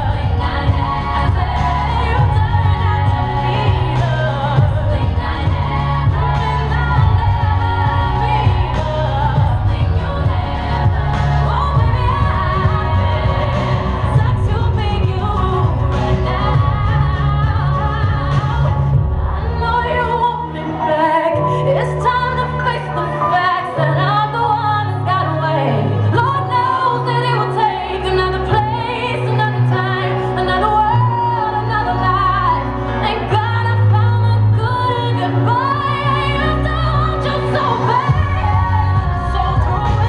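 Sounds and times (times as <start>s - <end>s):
bass line: 0.0s - 40.0s.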